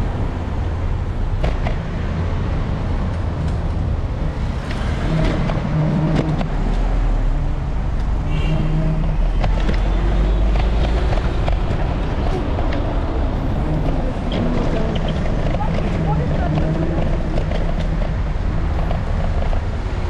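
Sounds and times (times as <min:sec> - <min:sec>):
car and bus engines running: 0:00.0 - 0:20.0.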